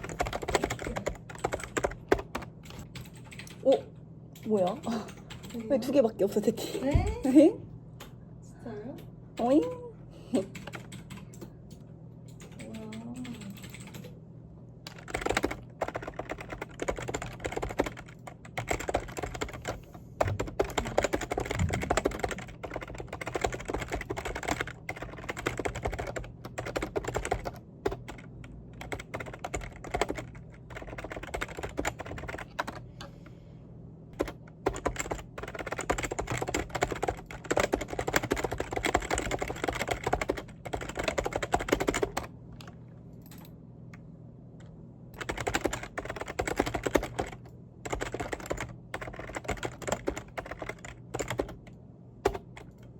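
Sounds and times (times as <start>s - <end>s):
fast typing on keyboard: 0.0s - 6.0s, 9.4s - 9.8s, 10.4s - 11.5s, 12.3s - 14.2s, 14.9s - 32.9s, 34.2s - 42.3s, 45.2s - 52.9s
steady low hum: 0.0s - 52.9s.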